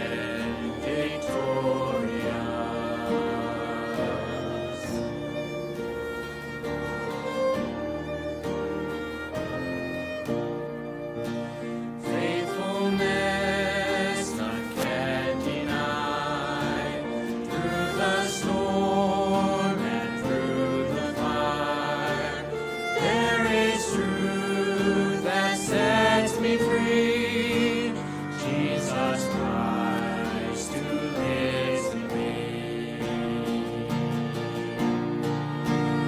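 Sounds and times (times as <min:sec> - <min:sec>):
group singing worship song: 0:00.0 - 0:07.5, 0:12.0 - 0:36.0
instrumental accompaniment: 0:00.0 - 0:36.0.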